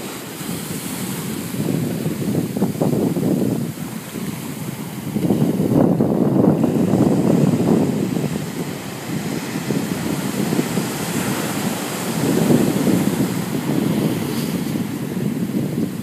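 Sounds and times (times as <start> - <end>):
ocean surf breaking on rocks: 0.0 - 16.0
wind buffeting microphone: 0.0 - 16.0.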